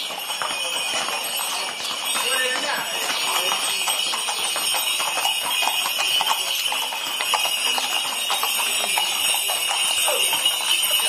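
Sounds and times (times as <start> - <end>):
bells jingling: 0.0 - 11.0
horse hooves clopping on pavement: 0.0 - 11.0.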